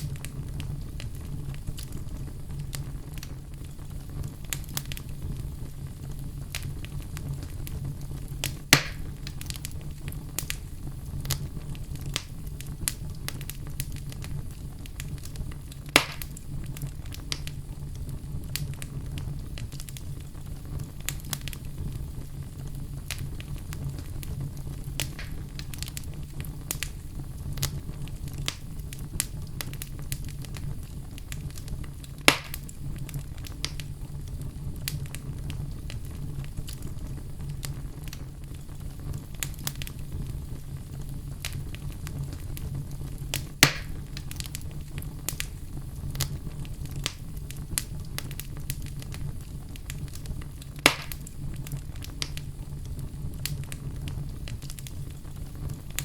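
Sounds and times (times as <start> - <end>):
louder fire pops: 0.0 - 56.0
wood fire crackling: 0.0 - 56.0.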